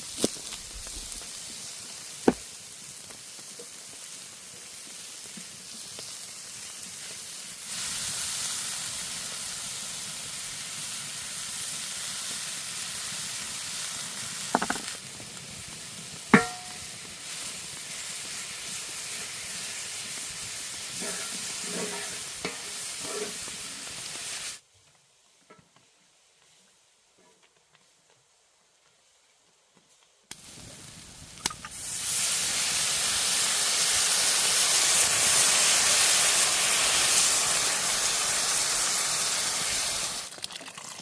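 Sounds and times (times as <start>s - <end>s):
chicken sizzling in hot oil: 0.0s - 24.6s, 30.4s - 41.0s.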